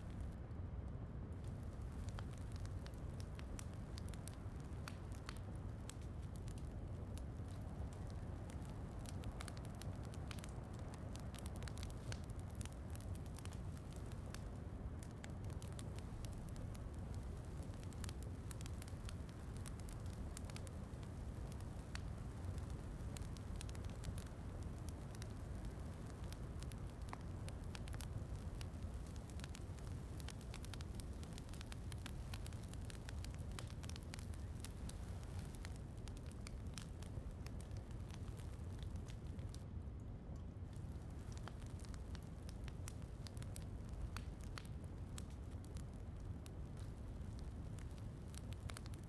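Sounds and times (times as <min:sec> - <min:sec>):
fireplace crackling and popping: 0:00.0 - 0:49.0.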